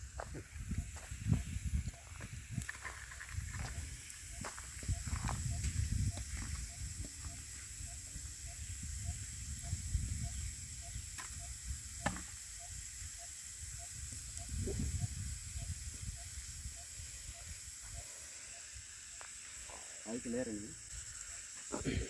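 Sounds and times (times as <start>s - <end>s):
fire crackling: 0.0s - 22.0s
steam hissing: 0.0s - 22.0s.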